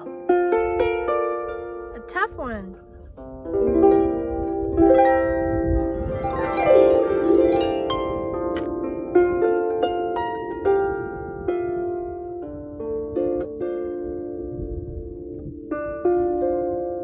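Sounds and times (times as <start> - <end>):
harp playing: 0.0 - 17.0.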